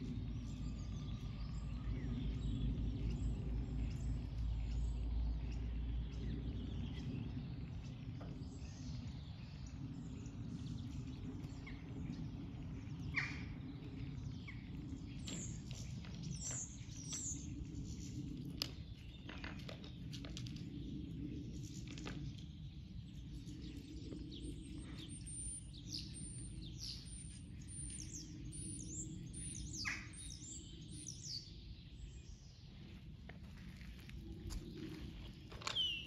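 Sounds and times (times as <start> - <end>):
outdoor background noise: 0.0 - 36.0
small birds chirping: 0.0 - 36.0.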